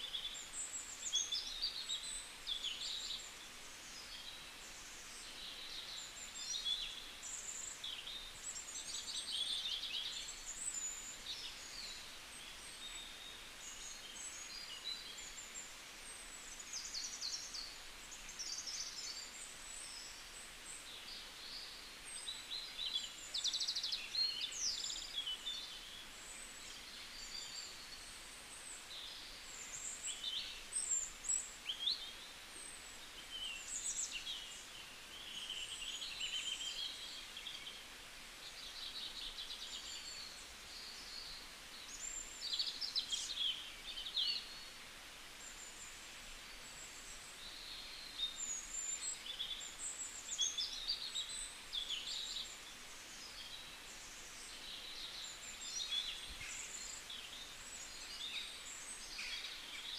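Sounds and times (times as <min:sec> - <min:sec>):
faint steady hiss: 0:00.0 - 0:59.9
small birds chirping: 0:00.0 - 0:59.9.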